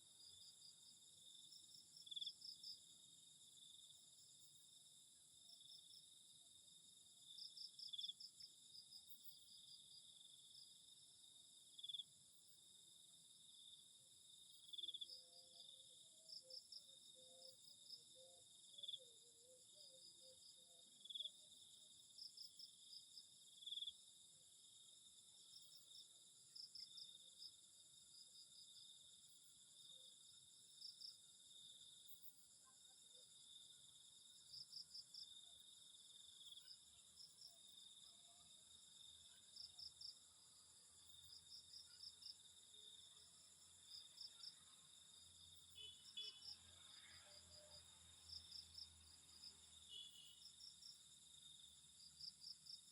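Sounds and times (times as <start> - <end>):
cricket chirps: 0.0 - 52.9.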